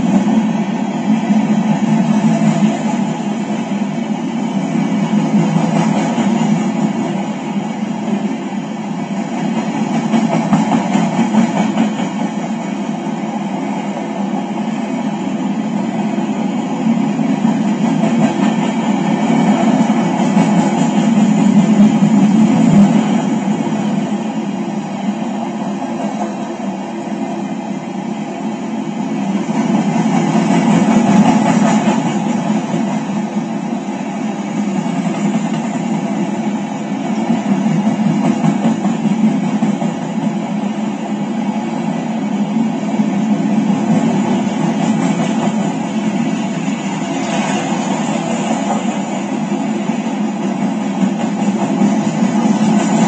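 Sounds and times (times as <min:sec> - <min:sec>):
train cars rolling on rails: 0:00.0 - 0:53.0.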